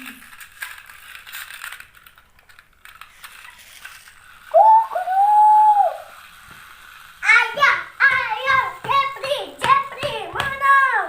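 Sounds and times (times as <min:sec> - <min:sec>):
plastic toy cars rattling: 0:00.0 - 0:11.0.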